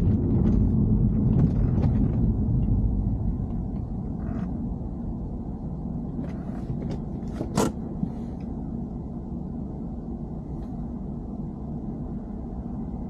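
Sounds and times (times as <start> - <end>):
car low rumble: 0.0 - 13.0.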